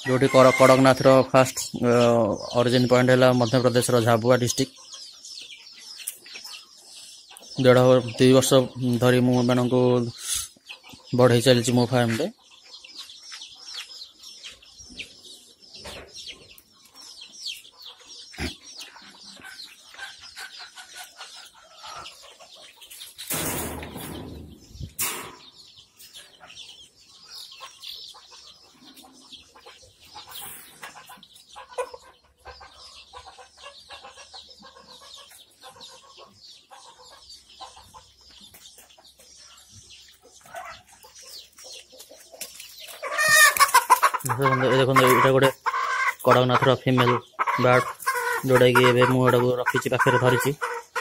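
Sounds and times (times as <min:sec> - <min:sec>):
chickens clucking: 0:00.0 - 0:51.0
chicks peeping: 0:00.0 - 0:51.0.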